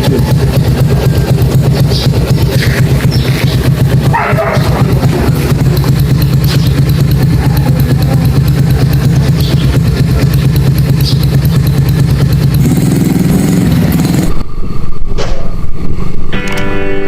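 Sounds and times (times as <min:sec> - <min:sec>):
small engine running: 0:00.0 - 0:14.5
loud uneven low rumble: 0:00.0 - 0:16.3.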